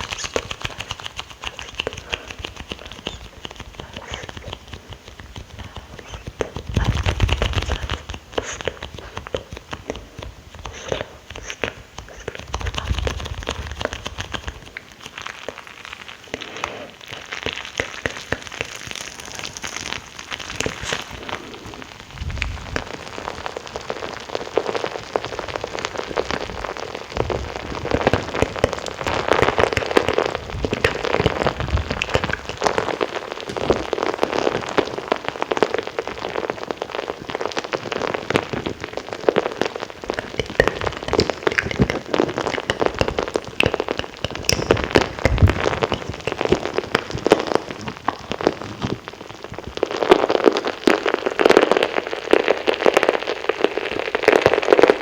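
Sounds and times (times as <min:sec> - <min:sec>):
wet mouth clicks and smacks: 0:00.0 - 0:23.2, 0:23.8 - 0:50.4.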